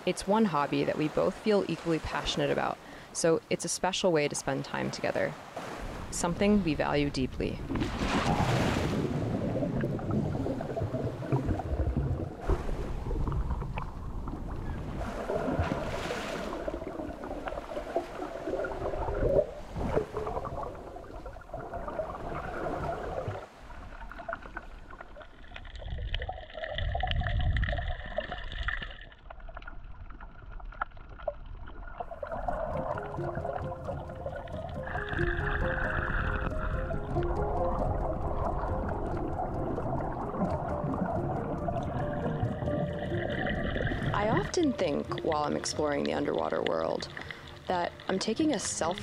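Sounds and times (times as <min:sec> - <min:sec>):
water splashes: 0:00.0 - 0:49.0
muffled underwater sloshing: 0:03.9 - 0:49.0.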